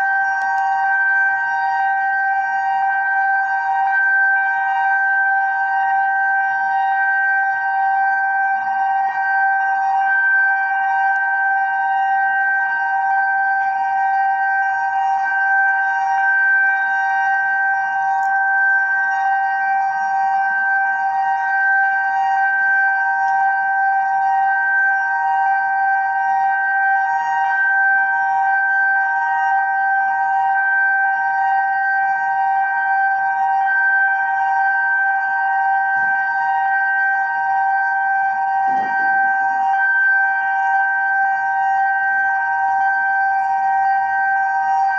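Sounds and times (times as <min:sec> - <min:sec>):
fire siren two-note tone: 0:00.0 - 0:44.9.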